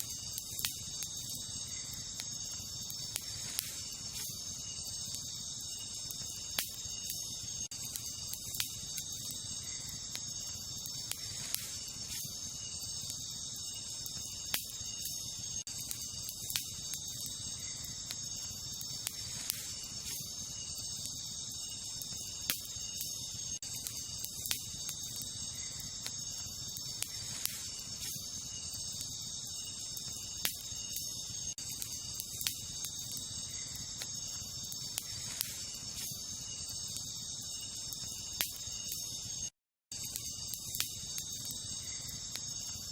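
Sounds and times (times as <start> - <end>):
campfire crackling and popping: 0.0 - 42.9
night insects chorus: 0.0 - 42.9.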